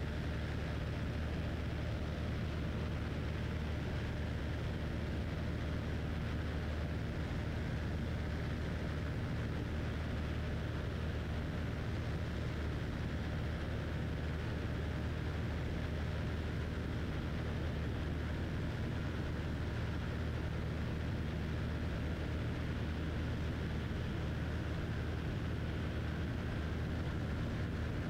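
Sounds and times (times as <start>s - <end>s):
airplane engine droning in cockpit: 0.0s - 28.0s.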